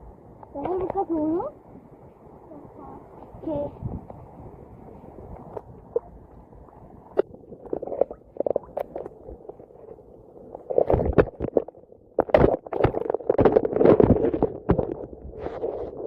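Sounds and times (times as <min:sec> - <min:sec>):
water sloshing and gurgling: 0:00.1 - 0:16.0.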